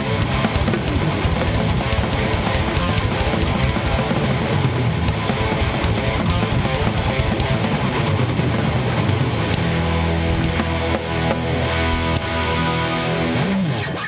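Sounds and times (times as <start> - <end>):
fast drums: 0.0 - 14.0
live thrashcore band playing: 0.0 - 14.0.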